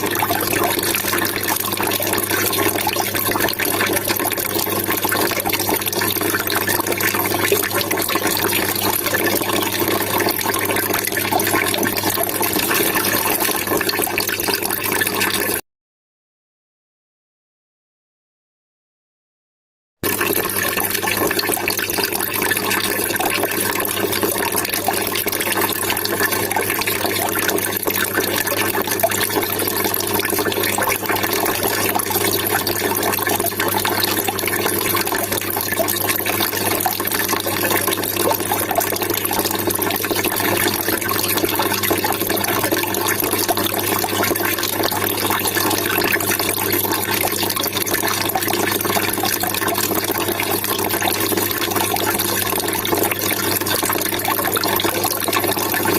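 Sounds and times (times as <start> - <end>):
water trickling and splashing: 0.0 - 15.6, 20.0 - 55.9.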